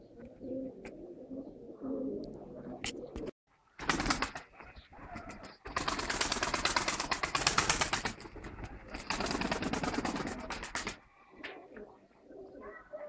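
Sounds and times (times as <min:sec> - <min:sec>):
pigeons cooing: 0:00.0 - 0:07.0, 0:08.2 - 0:13.0.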